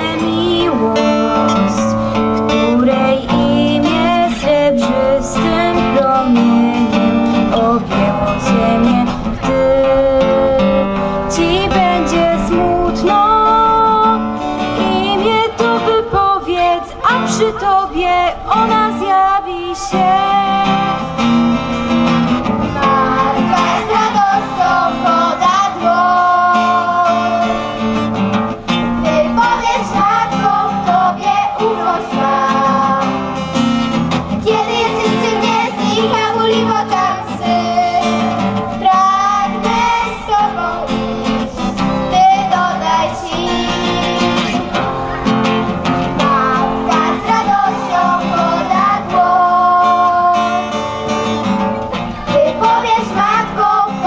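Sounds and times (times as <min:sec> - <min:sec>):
children singing: 0:00.0 - 0:54.0
instrumental accompaniment: 0:00.0 - 0:54.0.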